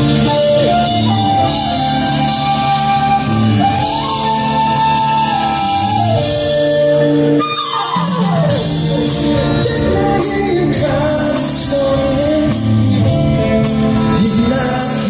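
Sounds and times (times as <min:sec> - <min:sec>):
lead line holding long notes: 0:00.0 - 0:15.0
soft rock band playing: 0:00.0 - 0:15.0.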